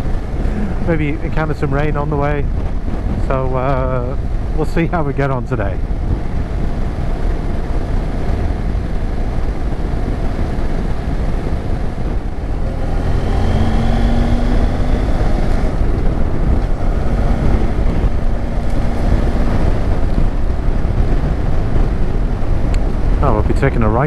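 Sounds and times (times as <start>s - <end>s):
motorcycle engine and wind rumble: 0.0s - 24.0s.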